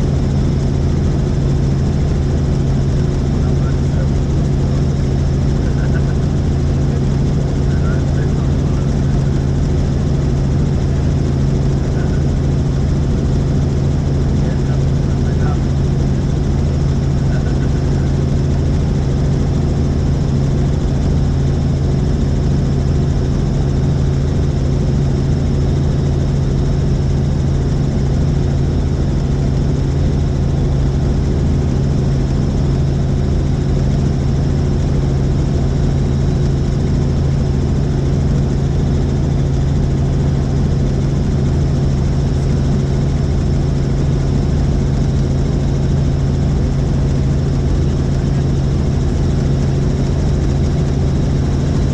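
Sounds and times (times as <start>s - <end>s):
helicopter rotor and engine drone: 0.0s - 51.9s.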